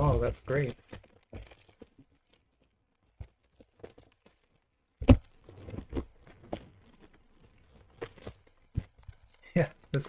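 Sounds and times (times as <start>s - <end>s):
wrapping rustling and crinkling: 0.0s - 10.0s.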